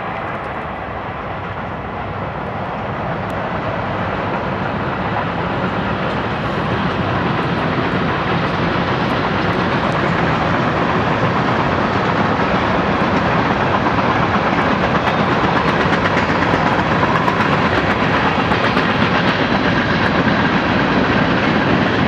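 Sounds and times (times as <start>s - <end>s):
freight train passing: 0.0s - 22.0s.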